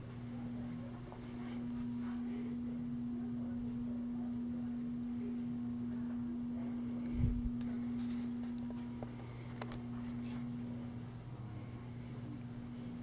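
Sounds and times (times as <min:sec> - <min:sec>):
ceiling fan motor humming: 0:00.0 - 0:13.0.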